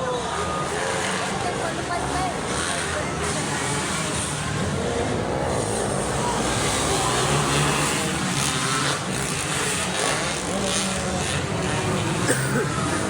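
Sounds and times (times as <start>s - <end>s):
dirt bike engine running: 0.2s - 13.0s.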